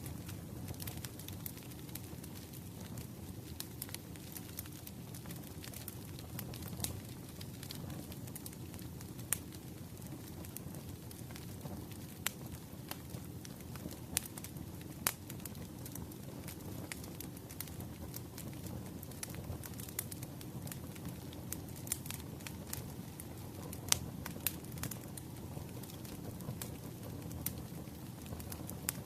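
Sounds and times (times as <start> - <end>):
low rush of flames: 0.0 - 29.0
wood crackling and popping: 0.0 - 29.0.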